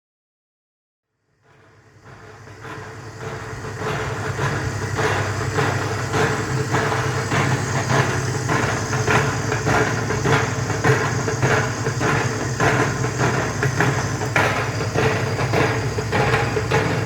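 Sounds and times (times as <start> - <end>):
pulsing motor hum: 2.2 - 17.0.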